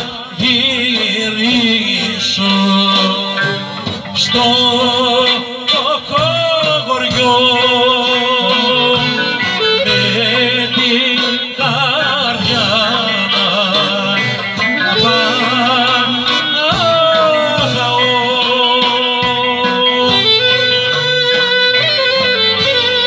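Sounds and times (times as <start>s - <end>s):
drums: 0.0s - 23.0s
man singing: 0.0s - 23.0s
plucked string instrument: 0.0s - 23.0s
clarinet melody: 2.3s - 23.0s.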